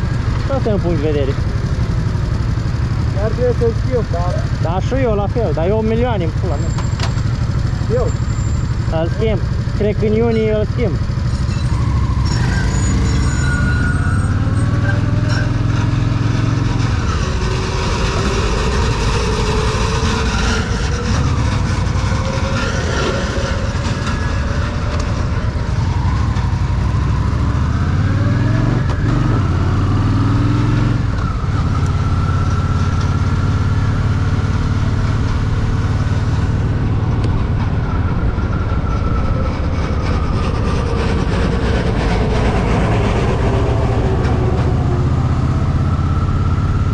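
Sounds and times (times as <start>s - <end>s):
motorcycle engine rumbling: 0.0s - 46.9s.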